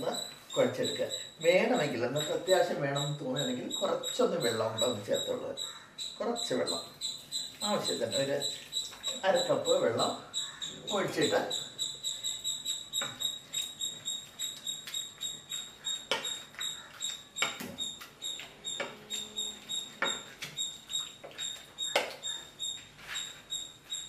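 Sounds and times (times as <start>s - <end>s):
masher squeaky rubbing: 0.0s - 24.0s.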